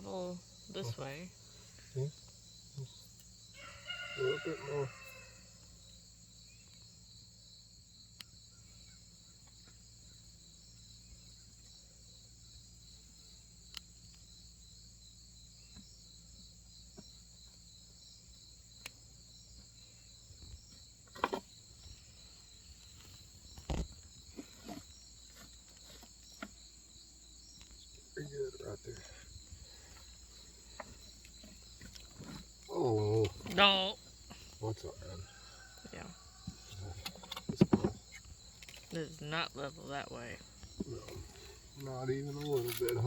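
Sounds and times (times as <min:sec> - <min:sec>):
crickets chirping: 0:00.0 - 0:43.0.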